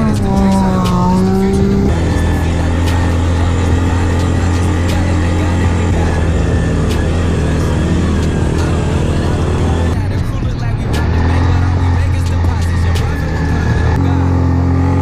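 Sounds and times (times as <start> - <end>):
quad bike engine droning: 0.0 - 15.0.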